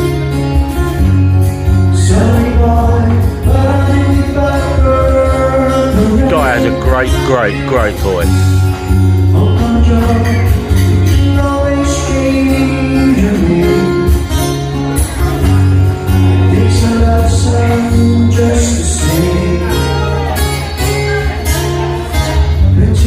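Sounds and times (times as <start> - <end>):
song with guitar and singing: 0.0 - 23.0.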